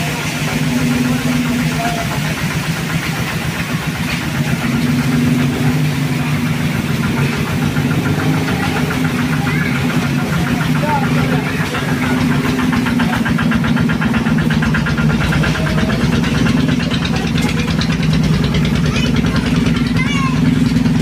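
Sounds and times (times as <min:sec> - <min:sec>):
small engine idling with knocking: 0:00.0 - 0:21.0.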